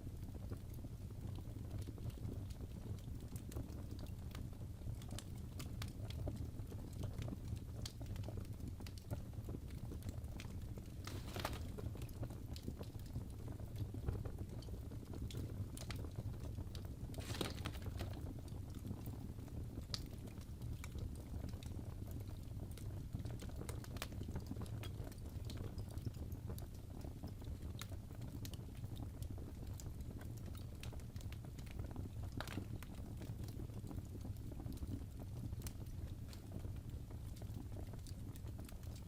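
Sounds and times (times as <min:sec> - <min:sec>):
low fire rumble: 0:00.0 - 0:39.0
wood fire crackling: 0:00.0 - 0:39.0.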